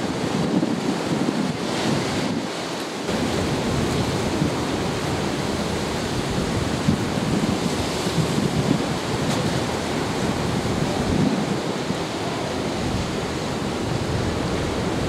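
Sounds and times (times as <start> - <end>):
sea surf washing against concrete: 0.0 - 15.0
wind buffeting microphone: 0.0 - 15.0.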